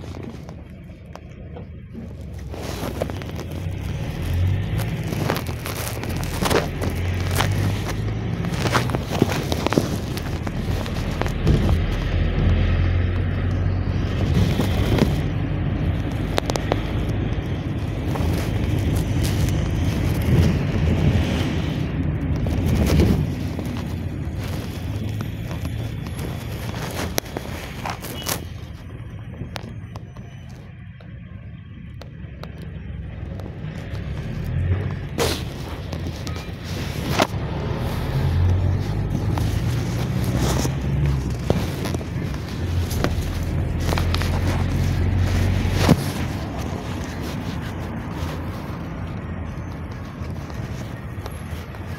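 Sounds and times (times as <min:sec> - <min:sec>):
engine drone: 0:00.0 - 0:51.9
road and tyre noise: 0:00.0 - 0:51.9.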